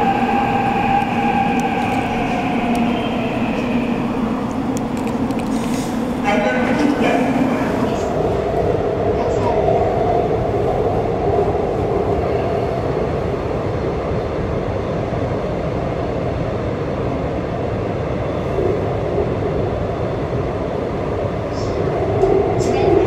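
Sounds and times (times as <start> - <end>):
subway train rumbling in tunnel: 0.0 - 23.0.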